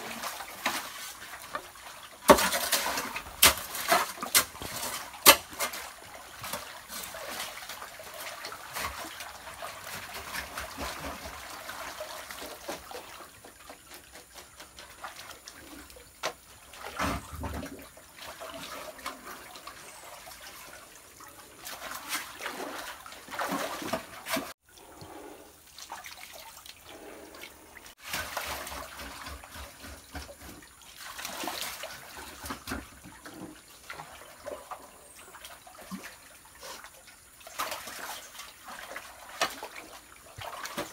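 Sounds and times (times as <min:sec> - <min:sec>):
muddy water splashing: 0:00.0 - 0:40.9.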